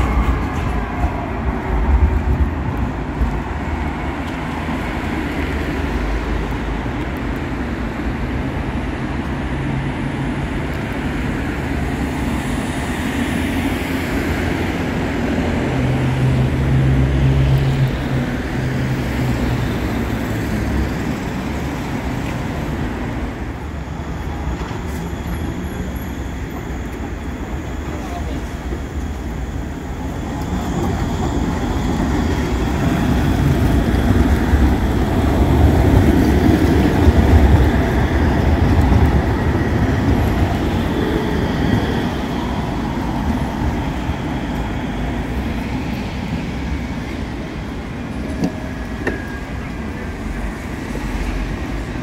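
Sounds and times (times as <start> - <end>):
rumble of passing vehicles: 0.0 - 52.0
tram approaching: 0.0 - 52.0.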